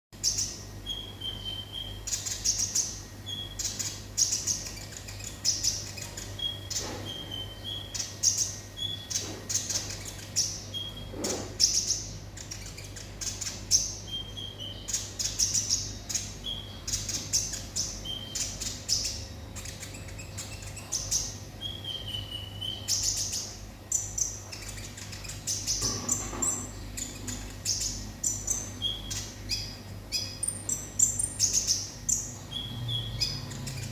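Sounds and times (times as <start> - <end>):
sunbird singing: 0.2 - 33.9.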